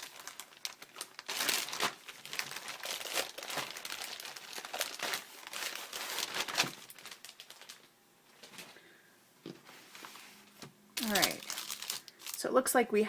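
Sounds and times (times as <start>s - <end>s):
packaging crinkling and rustling: 0.0s - 8.8s, 9.8s - 12.5s.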